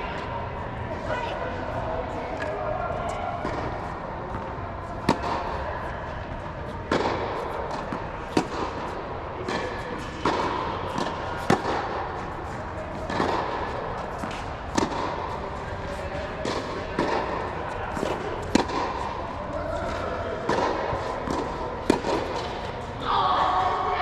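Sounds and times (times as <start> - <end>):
steady background noise: 0.0 - 24.0
tennis balls struck by rackets: 2.3 - 23.0.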